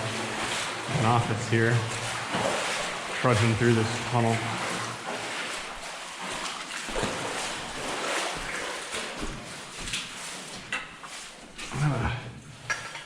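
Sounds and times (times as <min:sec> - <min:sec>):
footsteps splashing through water: 0:00.0 - 0:12.0.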